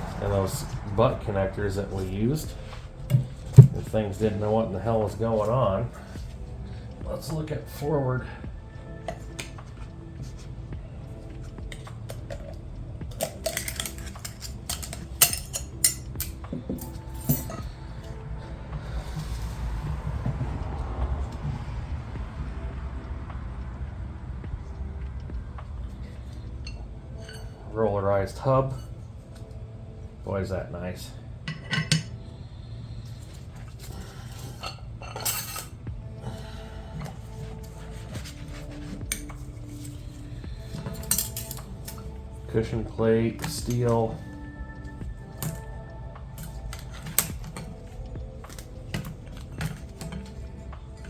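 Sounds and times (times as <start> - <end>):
metal clutch plates clinking: 0.0 - 20.6, 25.0 - 32.4, 33.0 - 51.0.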